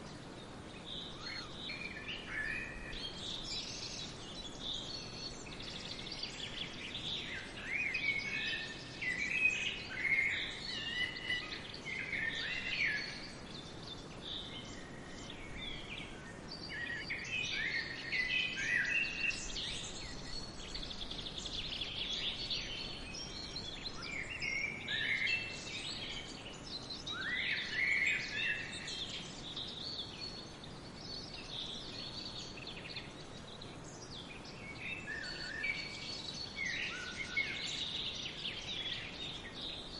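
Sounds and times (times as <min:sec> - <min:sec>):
faint steady hiss: 0:00.0 - 0:39.9
songbirds chirping and singing: 0:00.0 - 0:39.9.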